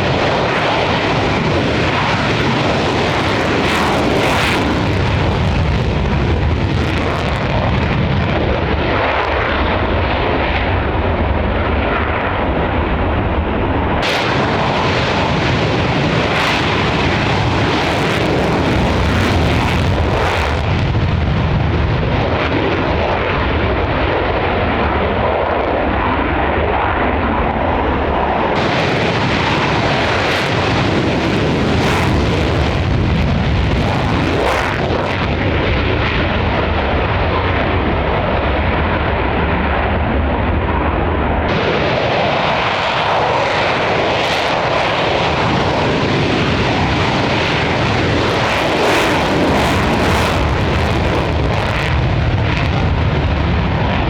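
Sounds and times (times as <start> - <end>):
jet aircraft engine roar: 0.0 - 54.0.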